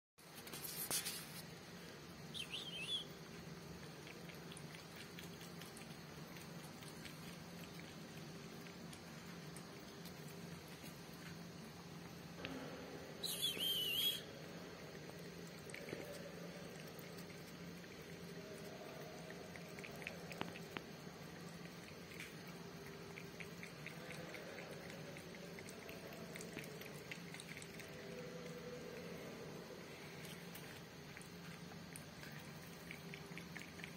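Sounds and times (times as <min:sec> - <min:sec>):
cat lapping milk: 0:03.0 - 0:12.3, 0:14.5 - 0:33.9.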